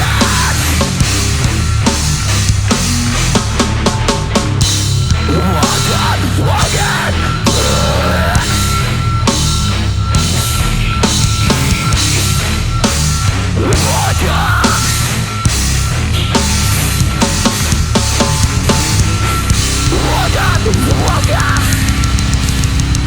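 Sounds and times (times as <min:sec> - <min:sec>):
heavy metal band playing: 0:00.0 - 0:23.0.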